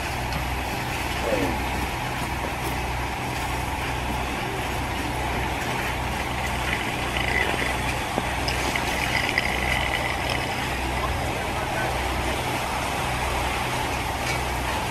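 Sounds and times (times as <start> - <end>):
fire engine pump humming: 0.0 - 14.9.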